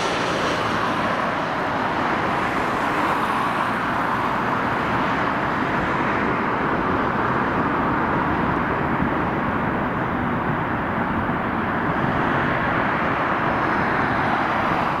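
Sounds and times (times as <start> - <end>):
jet airliner engine roar: 0.0 - 15.0.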